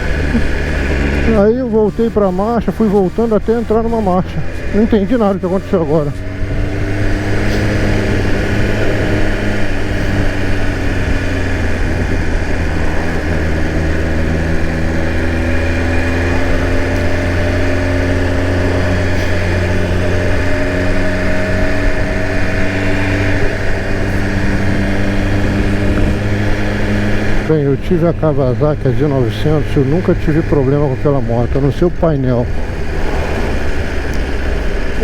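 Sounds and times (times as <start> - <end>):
motorcycle engine running steadily: 0.0 - 35.0.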